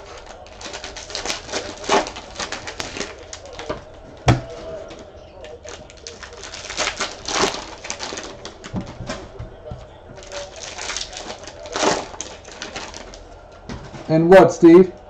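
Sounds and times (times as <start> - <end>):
foil wrappers crinkling: 0.0 - 14.1.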